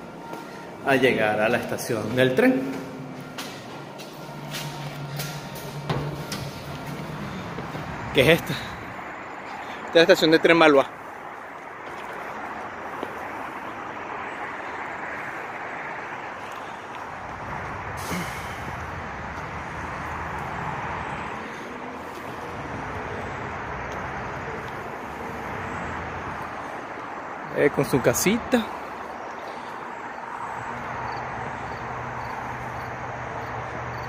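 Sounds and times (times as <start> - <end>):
heavy vehicle rumble: 0.0 - 34.0
road traffic passing: 0.0 - 34.0.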